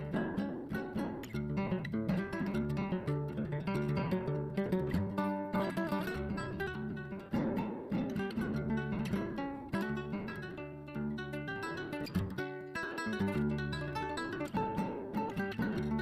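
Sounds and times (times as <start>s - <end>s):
flamenco-style acoustic guitar: 0.0s - 16.0s.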